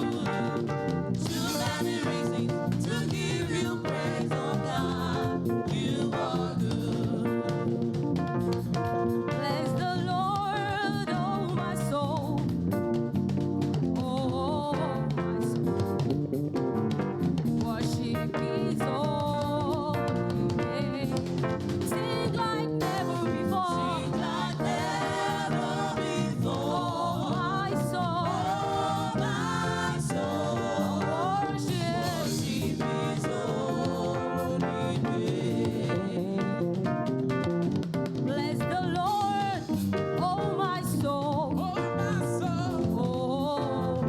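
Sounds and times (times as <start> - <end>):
choir singing gospel music: 0.0 - 13.1, 17.4 - 37.5, 38.4 - 44.0
band playing: 0.0 - 40.8.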